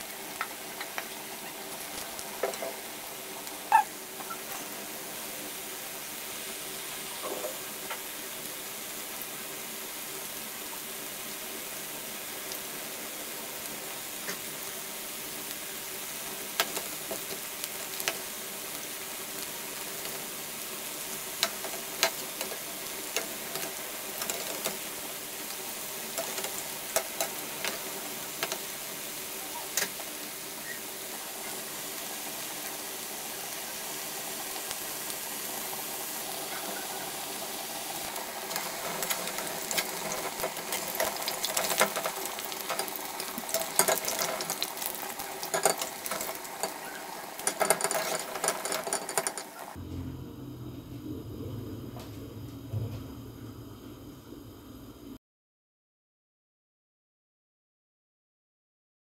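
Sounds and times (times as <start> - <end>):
food sizzling in hot oil: 0.0 - 49.8.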